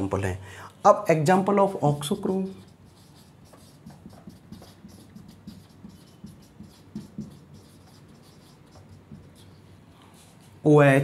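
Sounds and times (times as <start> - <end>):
marker squeaking on whiteboard: 1.3 - 10.6.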